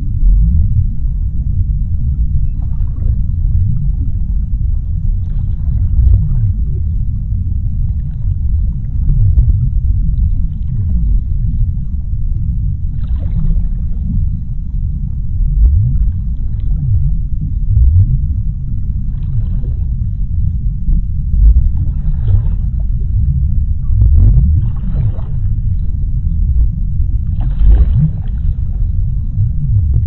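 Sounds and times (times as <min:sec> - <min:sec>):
underwater rumble: 0:00.0 - 0:30.0.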